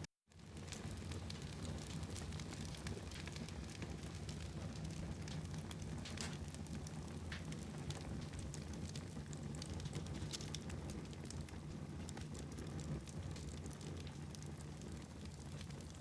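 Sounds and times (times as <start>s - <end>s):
fireplace fire crackling: 0.3s - 16.0s
low rumble of flames: 0.3s - 16.0s.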